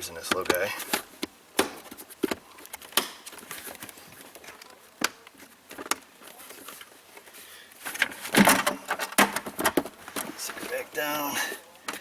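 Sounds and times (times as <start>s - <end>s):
light rustling and crackling: 0.0s - 12.0s.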